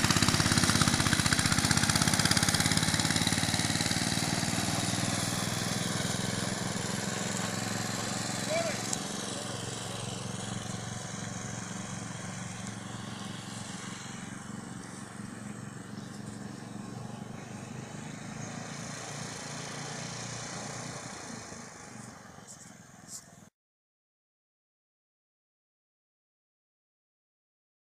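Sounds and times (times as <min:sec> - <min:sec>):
tractor engine running under load: 0:00.0 - 0:23.4.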